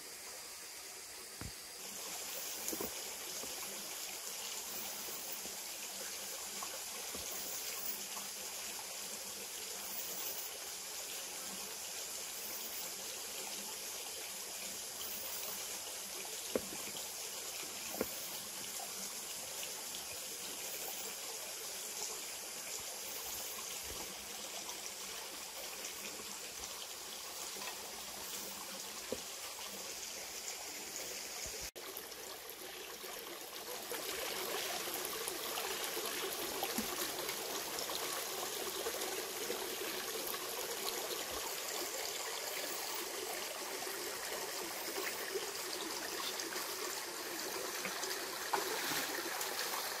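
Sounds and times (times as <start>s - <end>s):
stream flowing over stones: 0.0s - 50.0s.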